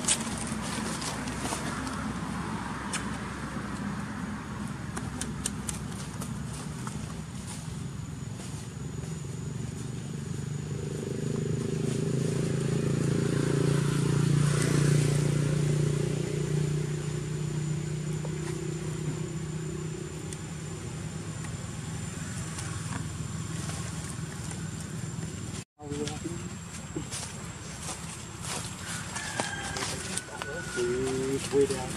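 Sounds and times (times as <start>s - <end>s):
vehicle engine passing by: 0.0s - 31.9s.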